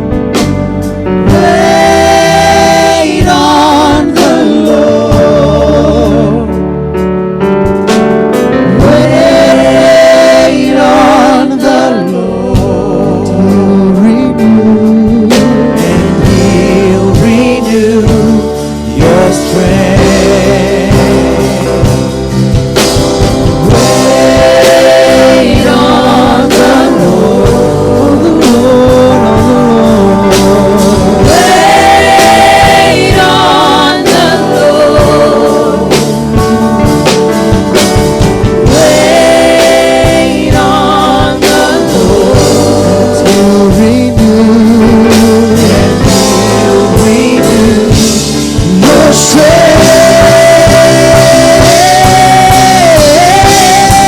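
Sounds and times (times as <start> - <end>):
gospel singers with band: 0.0 - 7.0, 7.6 - 54.0.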